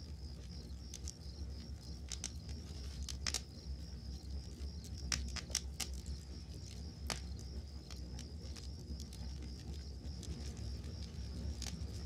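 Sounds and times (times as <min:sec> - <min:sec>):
campfire crackling and popping: 0:00.0 - 0:12.0
crickets chirping: 0:00.0 - 0:12.0.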